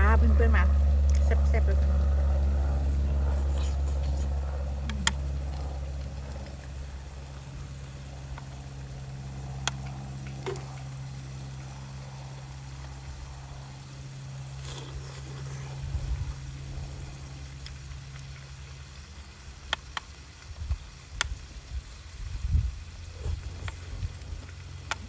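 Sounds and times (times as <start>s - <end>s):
aircraft rumble passing overhead: 0.0s - 25.0s
steady low hum: 0.0s - 25.0s.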